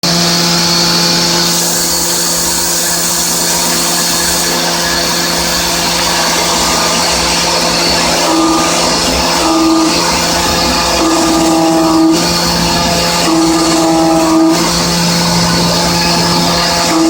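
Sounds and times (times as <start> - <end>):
milling machine cutting hum: 0.0 - 17.0.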